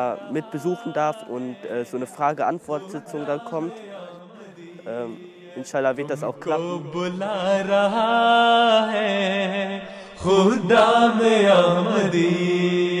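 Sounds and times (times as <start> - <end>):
person chanting unaccompanied: 0.0 - 13.0.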